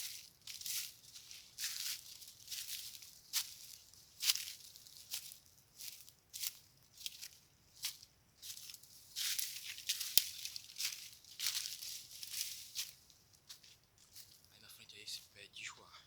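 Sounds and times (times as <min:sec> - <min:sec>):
leaves rustling: 0:00.0 - 0:14.5
footsteps crunching on dry leaves: 0:00.0 - 0:14.6.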